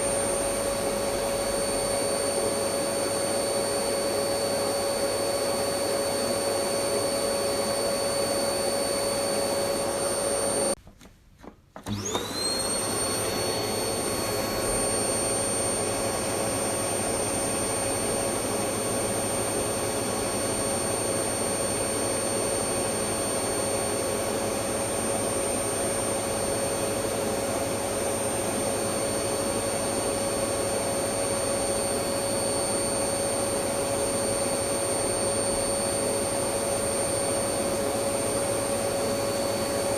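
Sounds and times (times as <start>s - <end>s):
vacuum cleaner motor whining: 0.0s - 10.8s, 11.8s - 39.9s.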